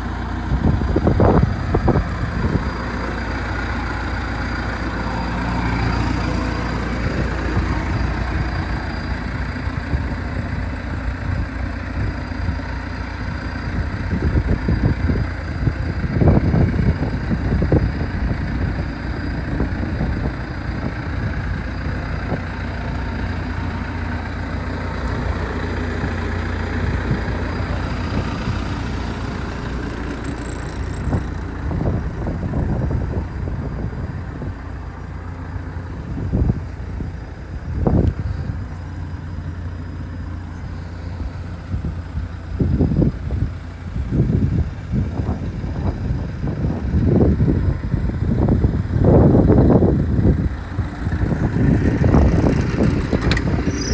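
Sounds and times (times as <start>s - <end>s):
excavator diesel engine idling: 0.0s - 53.9s.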